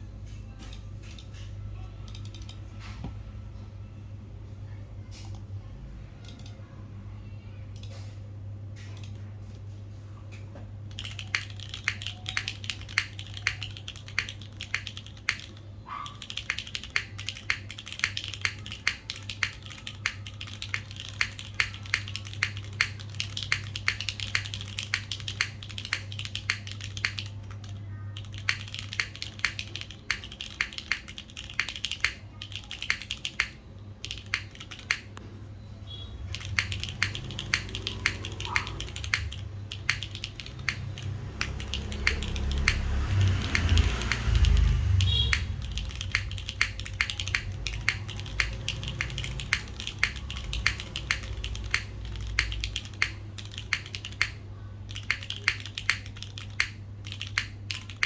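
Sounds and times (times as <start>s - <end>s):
mechanical keyboard typing: 0.4s - 2.6s, 6.1s - 6.6s, 10.8s - 35.3s, 36.2s - 58.0s.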